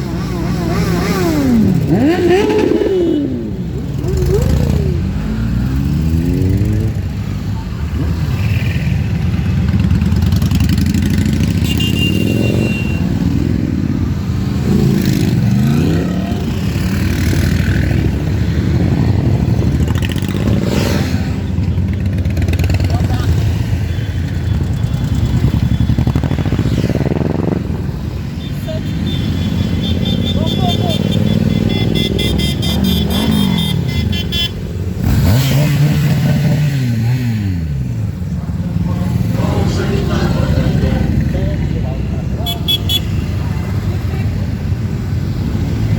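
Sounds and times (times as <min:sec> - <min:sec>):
motorcycle engines revving: 0:00.0 - 0:45.9
motorcycles riding past: 0:00.0 - 0:45.9.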